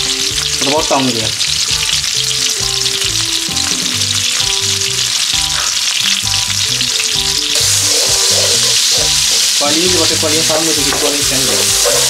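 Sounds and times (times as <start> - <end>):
background music: 0.0 - 12.0
oil sizzling in a wok: 0.0 - 12.0.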